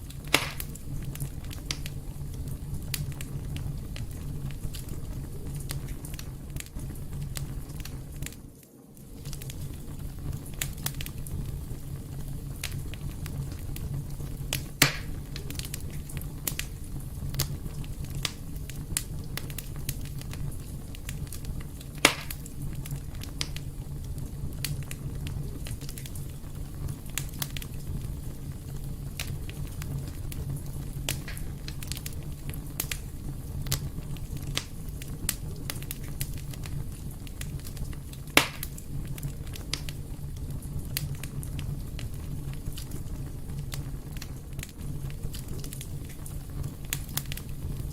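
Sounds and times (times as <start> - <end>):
fire popping: 0.0 - 47.9
wood fire crackling: 0.0 - 47.9.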